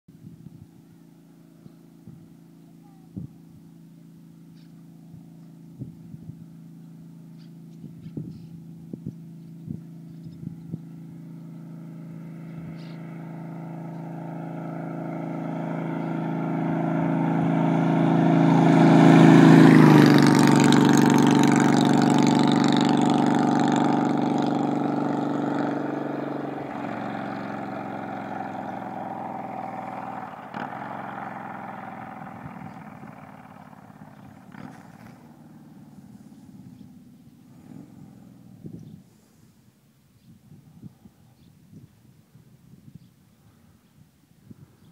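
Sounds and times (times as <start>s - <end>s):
motorcycle passing by: 0.2s - 39.6s.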